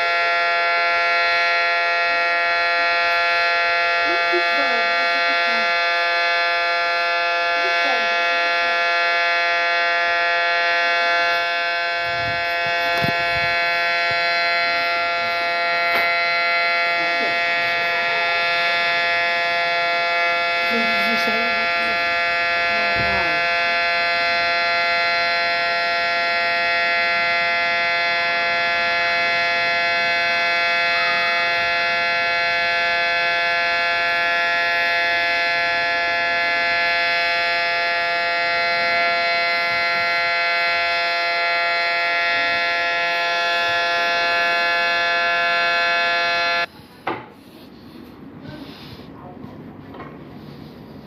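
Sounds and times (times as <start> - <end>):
warning siren steady tone: 0.0 - 49.1, 49.9 - 51.0.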